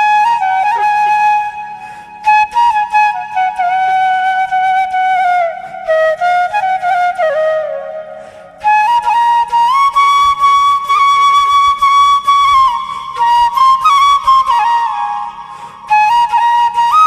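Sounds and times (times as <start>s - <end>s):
flute melody: 0.0s - 17.0s.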